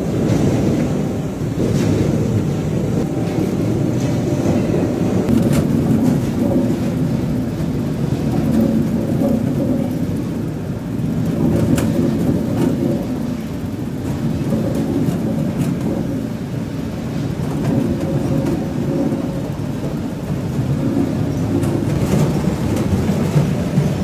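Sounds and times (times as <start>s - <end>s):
machinery rumbling: 0.0s - 24.0s.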